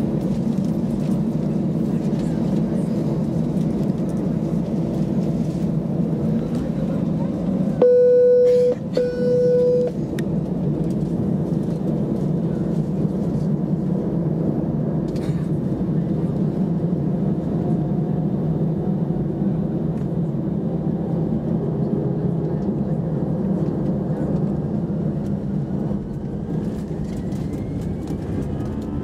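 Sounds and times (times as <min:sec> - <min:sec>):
jet engines at low thrust: 0:00.0 - 0:29.0.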